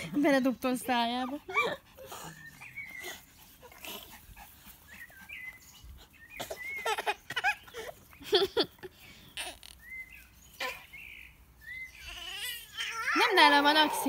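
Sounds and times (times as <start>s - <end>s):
small dogs whining and yipping: 0.9s - 8.1s, 9.4s - 14.0s.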